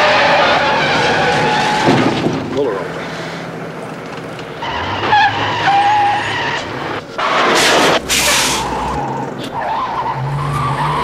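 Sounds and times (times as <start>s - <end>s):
tyres skidding: 0.0s - 11.0s
tyres squealing: 0.0s - 11.0s.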